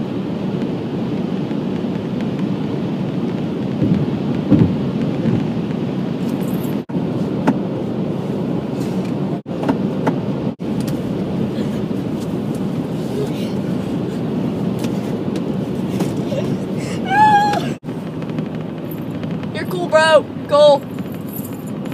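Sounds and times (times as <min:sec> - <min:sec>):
car cabin road rumble: 0:00.0 - 0:21.9.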